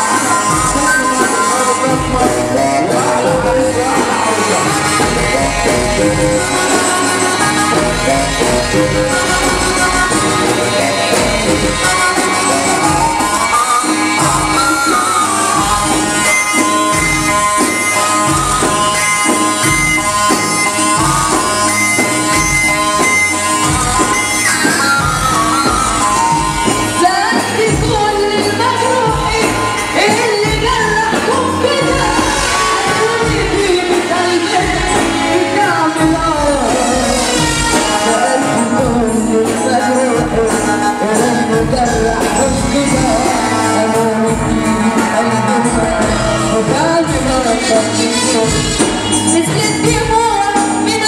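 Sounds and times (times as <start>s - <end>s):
amplified pop band: 0.0s - 51.0s
frame drum percussion: 0.0s - 51.0s
man singing into microphone: 0.0s - 51.0s
reedy lead melody: 0.0s - 51.0s.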